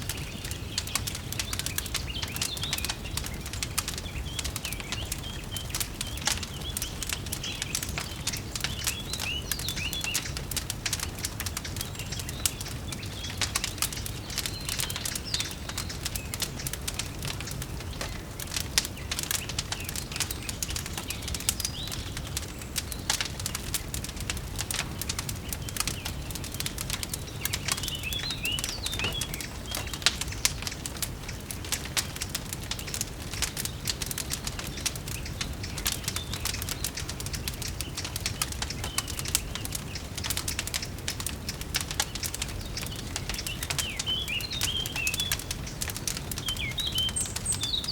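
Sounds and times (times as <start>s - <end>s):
birds chirping faintly: 0.0s - 47.9s
fireplace crackling and popping: 0.0s - 47.9s.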